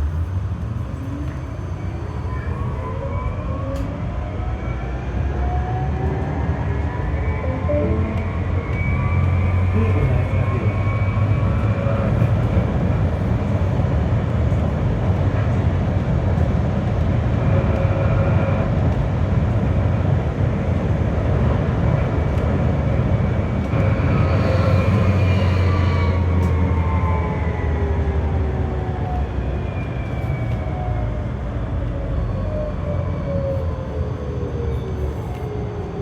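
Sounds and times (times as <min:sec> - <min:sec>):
tram rolling rumble: 0:00.0 - 0:36.0.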